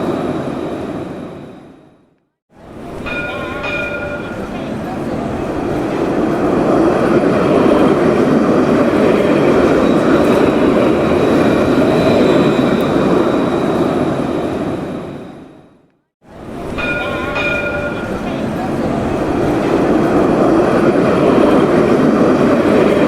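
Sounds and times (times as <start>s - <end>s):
cable car wheels rumbling on rails: 2.6s - 15.7s, 16.3s - 23.0s.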